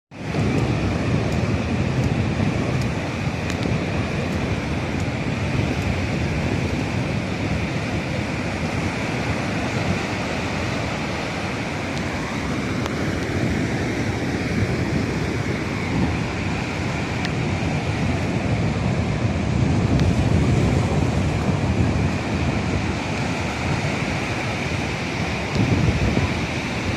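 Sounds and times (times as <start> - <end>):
waves rushing: 0.1 - 26.9
wind buffeting microphone: 0.1 - 26.9.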